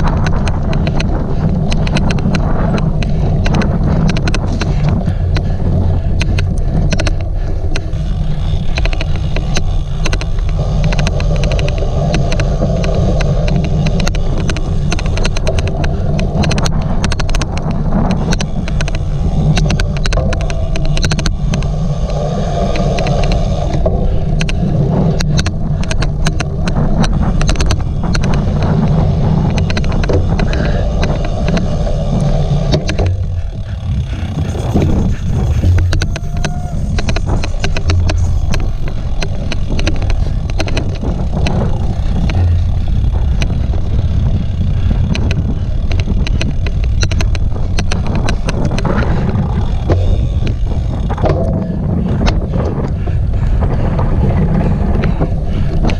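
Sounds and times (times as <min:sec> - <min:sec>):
bike clicks and rattles: 0:00.0 - 0:55.9
tyres over rough ground: 0:00.0 - 0:55.9
wind rumble: 0:00.0 - 0:55.9.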